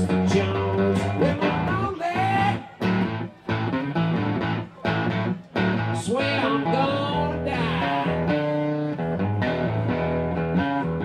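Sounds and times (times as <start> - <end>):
electric blues band playing: 0.0 - 11.0
electric guitar: 0.0 - 11.0.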